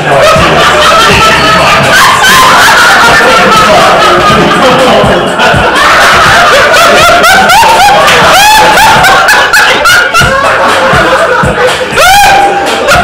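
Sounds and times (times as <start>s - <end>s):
person laughing loudly: 0.0s - 13.0s.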